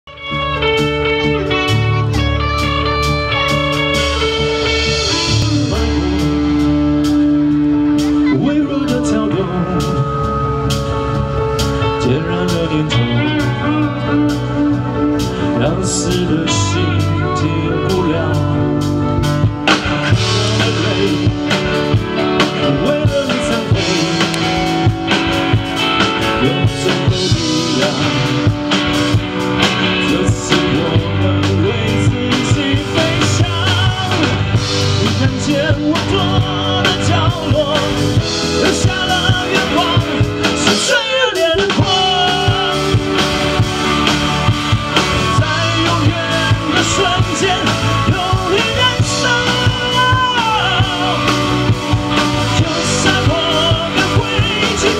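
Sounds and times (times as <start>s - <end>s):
bass guitar: 0.0s - 54.9s
electric guitar: 0.0s - 54.9s
drum kit: 0.1s - 54.9s
man singing lead vocals: 0.1s - 54.9s.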